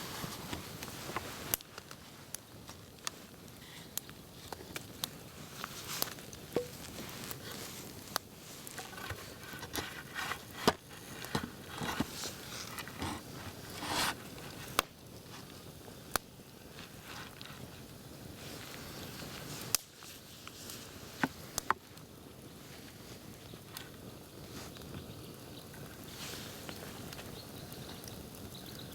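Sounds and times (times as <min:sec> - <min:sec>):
rustling noises: 0:00.0 - 0:15.9, 0:16.6 - 0:28.3
campfire crackling: 0:00.0 - 0:28.9.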